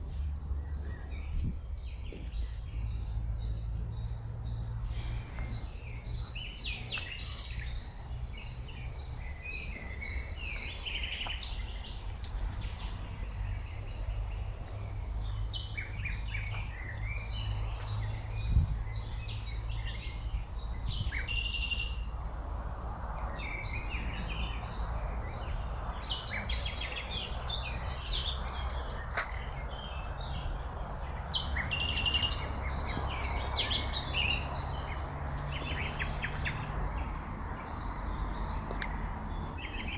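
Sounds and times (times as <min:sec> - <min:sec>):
songbirds chirping and singing: 0:00.1 - 0:39.9.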